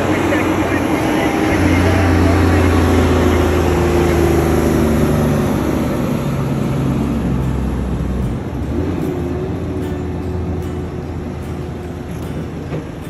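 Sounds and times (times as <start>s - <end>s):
deep diesel truck engine: 0.0s - 13.0s
rumble of tyres: 0.0s - 13.0s.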